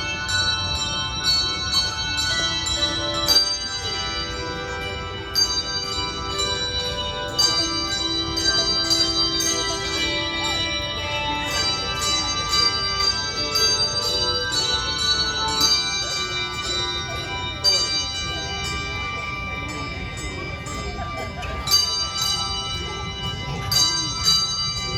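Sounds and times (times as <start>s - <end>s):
handbells ringing: 0.0s - 24.9s.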